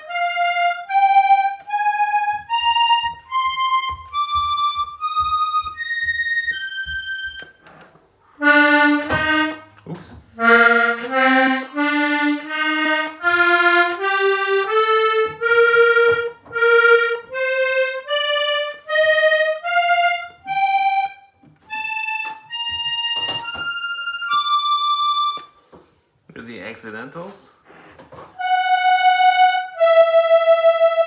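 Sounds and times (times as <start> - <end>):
accordion playing a scale: 0.0 - 7.7, 8.3 - 25.7, 28.4 - 31.0.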